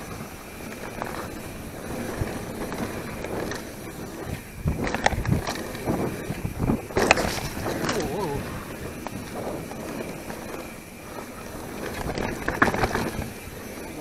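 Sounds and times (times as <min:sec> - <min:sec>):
bike rattling: 0:00.0 - 0:14.0
bike tyres rolling on dirt: 0:00.0 - 0:14.0
knocks and clatter over bumps: 0:00.0 - 0:14.0.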